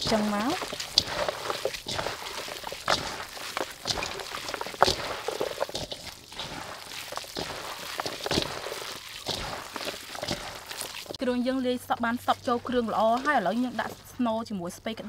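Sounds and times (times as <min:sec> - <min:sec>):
wet squishing of food mixing: 0:00.0 - 0:15.0.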